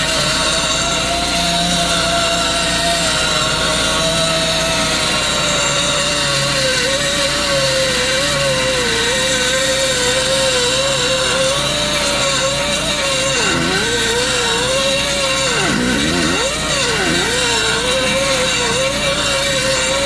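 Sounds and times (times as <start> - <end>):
air rotary tool grinding metal: 0.0 - 20.0.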